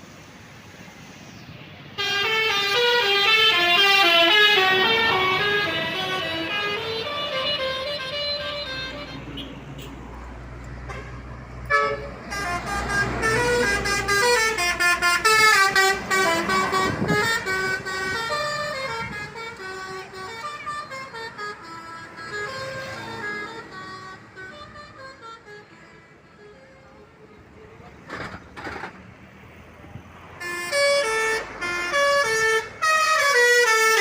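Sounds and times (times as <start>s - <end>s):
multi-tone bus horn melody: 1.9s - 10.1s, 10.9s - 27.2s, 30.3s - 34.0s.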